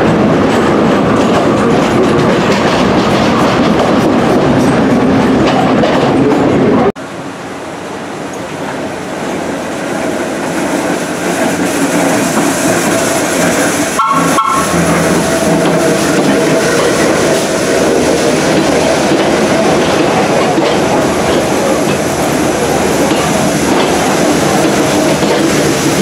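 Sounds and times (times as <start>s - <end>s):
wheels clattering over rails: 0.0s - 6.9s, 10.1s - 26.0s
subway train rolling past: 0.0s - 26.0s.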